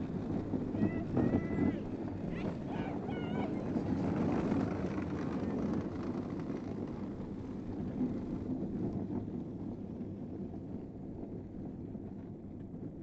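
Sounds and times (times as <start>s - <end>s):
hard wheels rumbling over asphalt: 0.0s - 13.0s.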